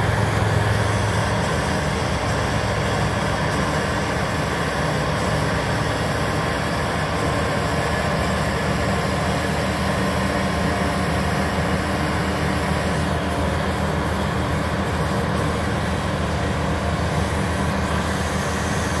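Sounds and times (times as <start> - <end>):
diesel engines droning: 0.0 - 19.0.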